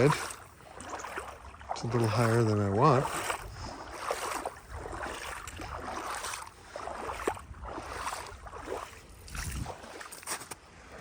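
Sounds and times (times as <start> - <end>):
boots wading through water: 0.0 - 11.0.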